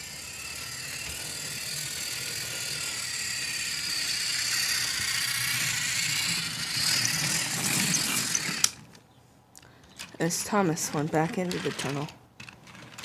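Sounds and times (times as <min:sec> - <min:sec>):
toy train running on plastic track: 0:00.0 - 0:08.9, 0:10.0 - 0:13.0.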